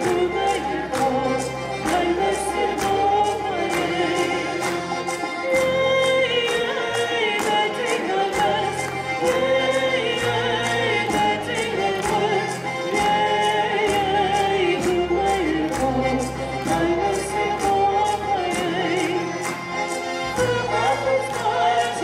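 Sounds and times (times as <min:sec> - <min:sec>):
accordions and plucked strings: 0:00.0 - 0:22.0
folk singing: 0:00.0 - 0:22.0.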